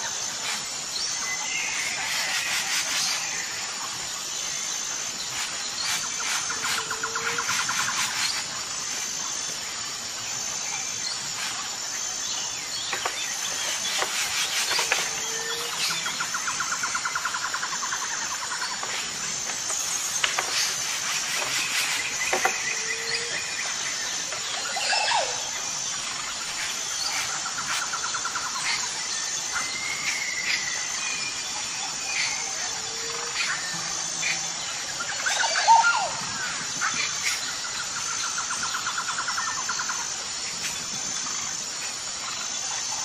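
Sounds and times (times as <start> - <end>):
bird rapid trills: 0.0 - 43.0
steady high-pitched whine: 0.0 - 43.0
birds chirping and calling: 0.1 - 41.3.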